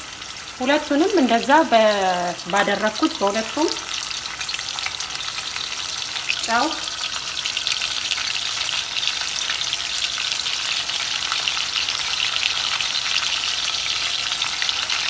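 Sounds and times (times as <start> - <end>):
beef sizzling in hot oil: 0.0 - 15.0.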